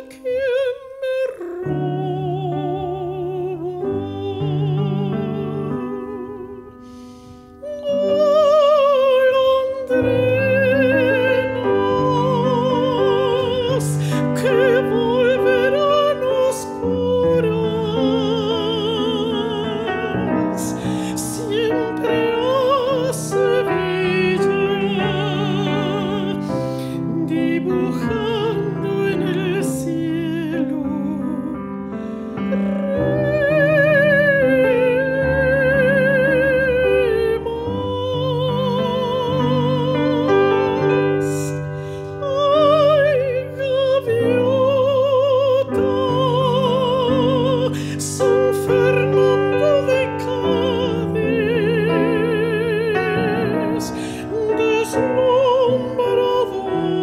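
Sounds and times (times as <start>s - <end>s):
piano accompaniment: 0.0s - 57.0s
woman singing with vibrato: 0.0s - 57.0s.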